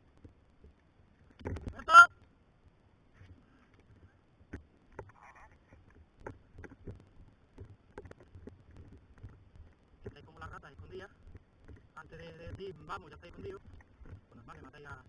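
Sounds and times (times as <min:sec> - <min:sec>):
faint clicks and knocks: 0:00.0 - 0:15.0.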